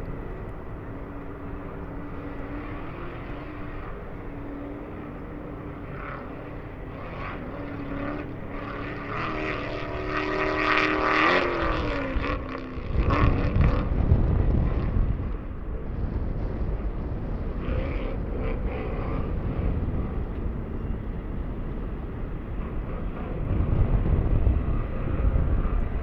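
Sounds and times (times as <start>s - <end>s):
race vehicle engine passing: 0.0s - 26.0s.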